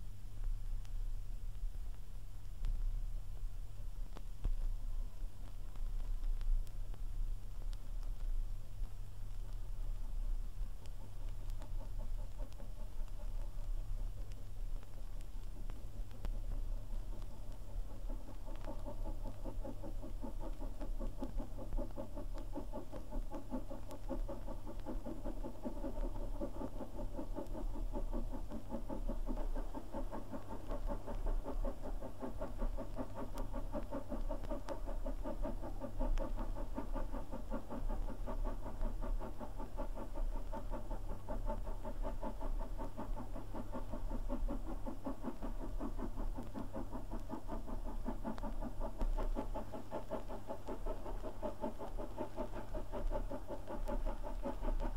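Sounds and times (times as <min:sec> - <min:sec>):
steady low hum: 0:00.0 - 0:54.9
steam locomotive exhaust beating: 0:10.8 - 0:54.9.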